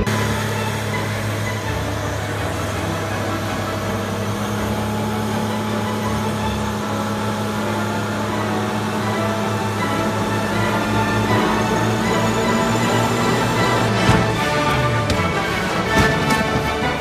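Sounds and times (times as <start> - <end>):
truck engine running: 0.0 - 17.0
wheels spinning: 0.0 - 17.0.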